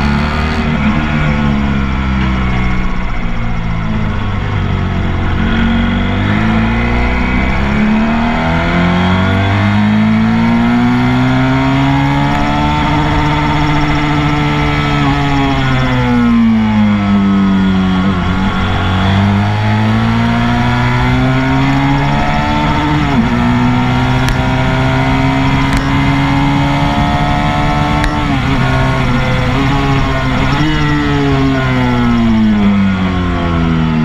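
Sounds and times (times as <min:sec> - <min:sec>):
motorcycle engine revving: 0:00.0 - 0:34.0
wind noise: 0:00.0 - 0:34.0.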